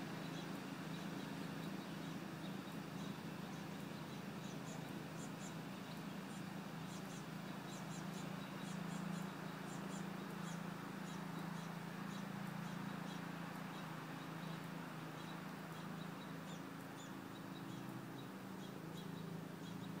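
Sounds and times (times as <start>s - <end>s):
small bird chirping: 0.1s - 20.0s.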